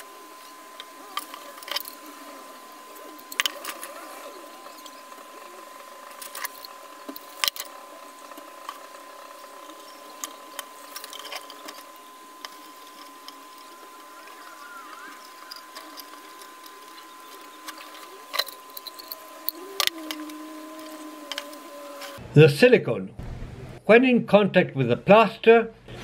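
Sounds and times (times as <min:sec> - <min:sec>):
high-pitched hum: 0:00.0 - 0:22.5.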